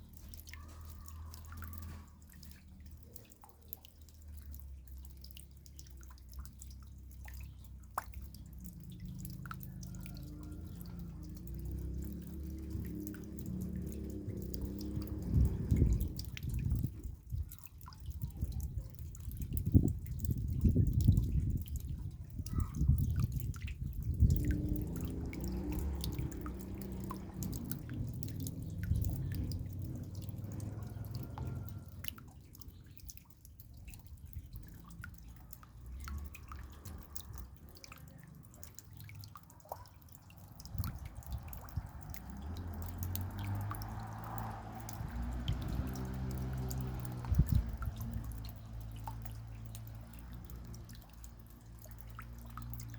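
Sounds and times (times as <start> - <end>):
raindrops dripping and pattering: 0.0 - 52.9.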